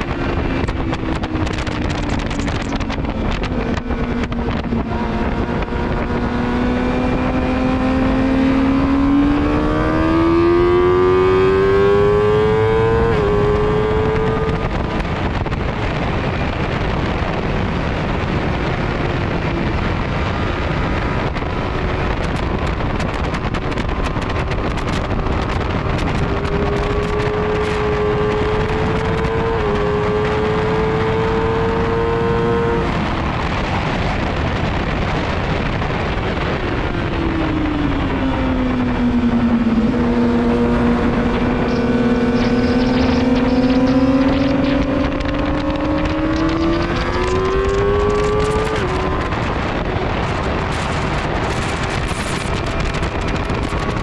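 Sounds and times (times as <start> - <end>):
motorcycle engine at speed: 0.0 - 54.0
wind rush on microphone: 0.0 - 54.0.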